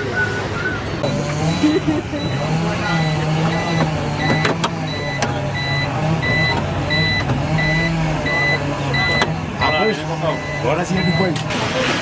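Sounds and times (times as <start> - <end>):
electronic warning beeper: 1.0 - 11.4.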